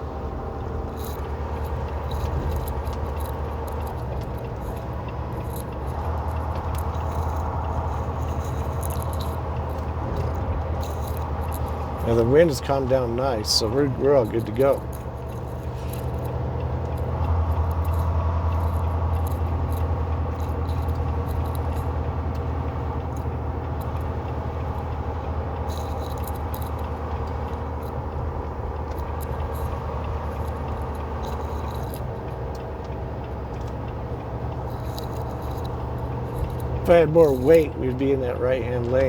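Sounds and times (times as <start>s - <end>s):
cab rattles: 0.0s - 39.0s
truck diesel engine drone: 0.0s - 39.0s.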